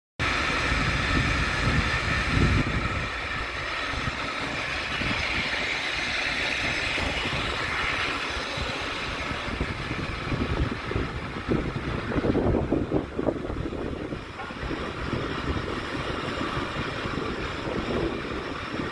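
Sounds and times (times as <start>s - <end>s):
funicular cars rushing on rails: 0.2s - 18.9s
wind buffeting microphone: 0.2s - 18.9s.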